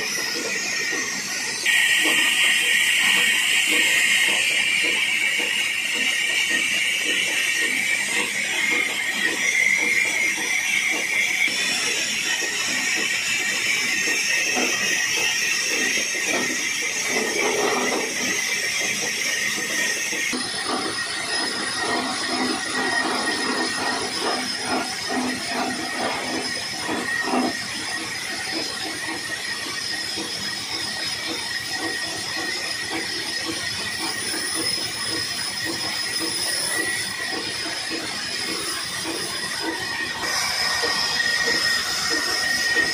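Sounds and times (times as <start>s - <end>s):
band saw whining through log: 0.0s - 42.9s.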